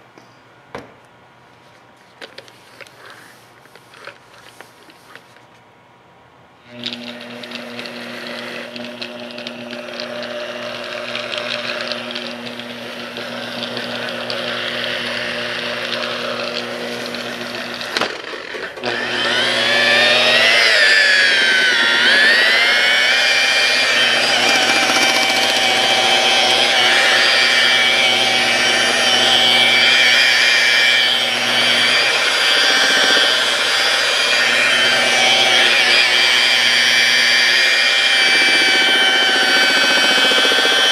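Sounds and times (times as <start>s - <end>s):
buffer motor whining: 6.6s - 40.9s.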